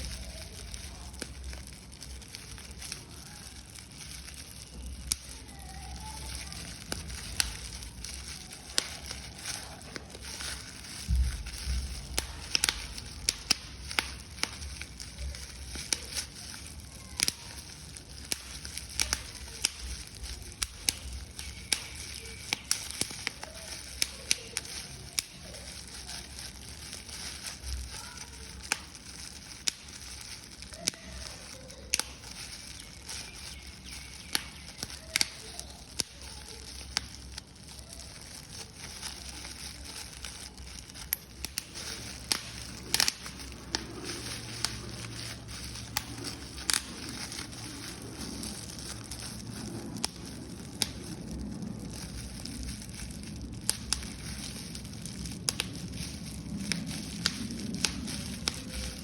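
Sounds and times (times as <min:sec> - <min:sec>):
paper crumpling: 0:00.0 - 0:59.0.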